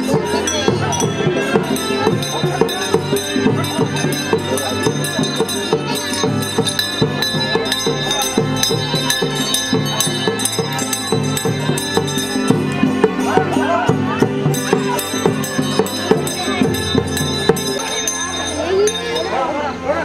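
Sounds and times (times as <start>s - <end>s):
steady beat: 0.0s - 19.2s
ringing bell-like tones: 0.0s - 20.0s.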